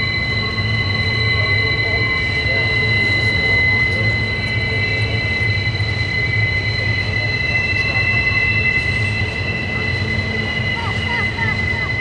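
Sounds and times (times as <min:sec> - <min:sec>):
freight train low rumble: 0:00.0 - 0:12.0
train wheels squealing on rail: 0:00.0 - 0:12.0.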